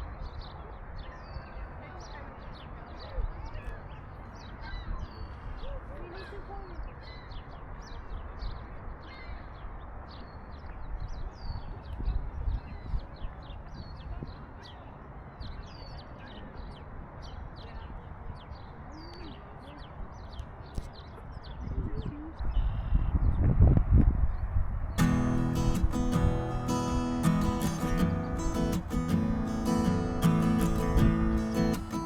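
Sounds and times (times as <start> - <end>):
small birds chirping: 0.0 - 23.4, 24.4 - 32.0.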